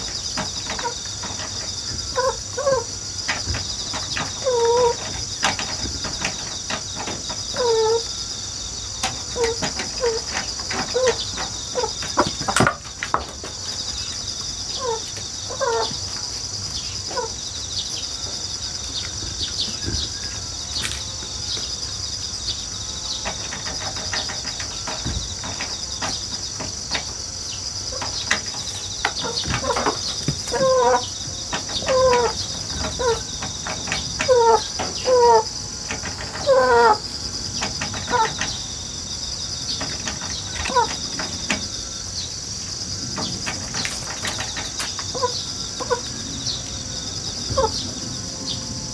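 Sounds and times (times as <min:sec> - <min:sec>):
chickens clucking: 0:00.0 - 0:48.7
insects chirring: 0:00.0 - 0:48.9.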